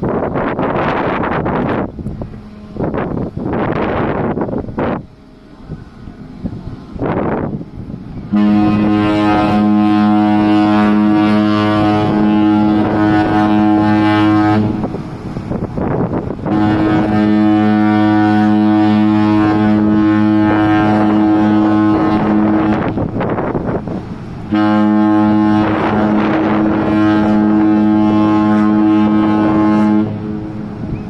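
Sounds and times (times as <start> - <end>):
deep ship horn blasts: 0.0 - 31.0.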